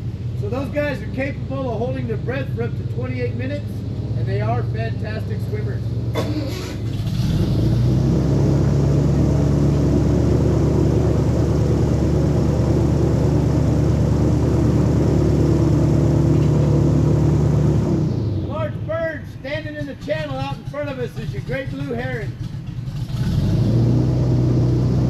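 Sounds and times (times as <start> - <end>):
airboat engine and propeller revving: 0.0 - 25.0.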